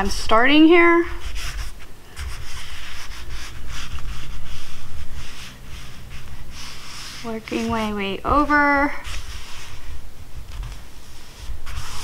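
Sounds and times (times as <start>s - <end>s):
hand rubbing fabric patch: 0.7s - 12.0s.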